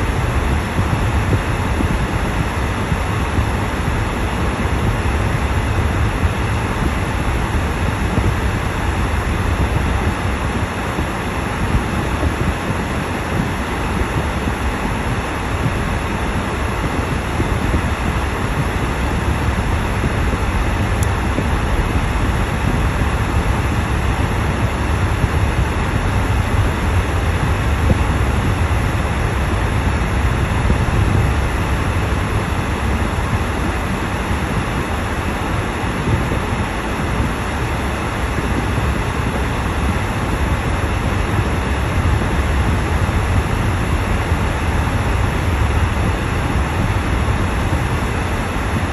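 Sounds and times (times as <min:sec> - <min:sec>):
road and tyre rumble in car: 0:00.0 - 0:48.9.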